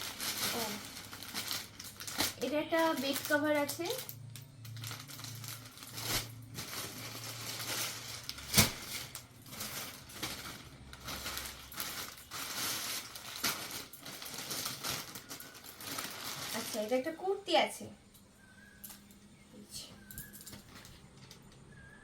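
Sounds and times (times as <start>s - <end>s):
packaging rustling and crinkling: 0.0s - 17.4s, 20.0s - 22.0s.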